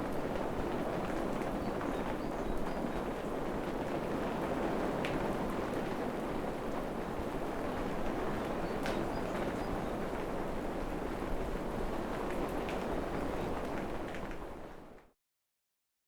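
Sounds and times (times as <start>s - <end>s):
steady rain patter: 0.0s - 15.0s.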